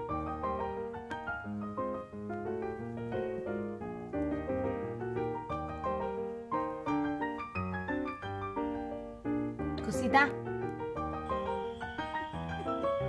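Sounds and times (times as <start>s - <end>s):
piano tune: 0.0s - 13.0s.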